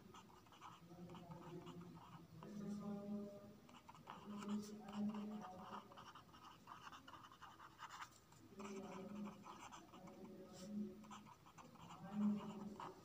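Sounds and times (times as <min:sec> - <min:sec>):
marker pen scratching on paper: 0:00.0 - 0:03.0, 0:03.7 - 0:13.0.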